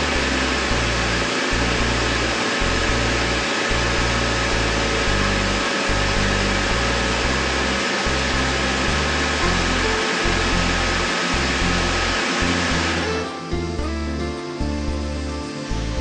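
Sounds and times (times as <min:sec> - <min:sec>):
spraying machine whooshing: 0:00.0 - 0:13.9
low stepping machine note: 0:00.0 - 0:16.0.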